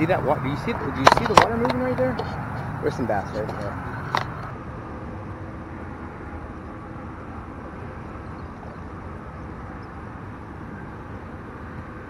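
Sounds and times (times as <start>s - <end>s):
freeway traffic noise: 0.0s - 12.0s.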